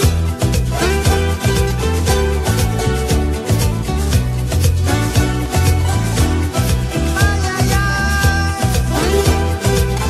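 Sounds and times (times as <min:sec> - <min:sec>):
upbeat music with plucked strings: 0:00.0 - 0:10.0.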